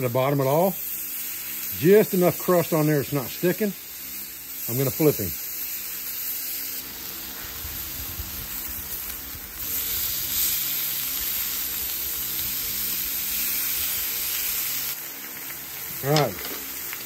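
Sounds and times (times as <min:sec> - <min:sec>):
steaks sizzling in skillet: 0:00.0 - 0:17.0.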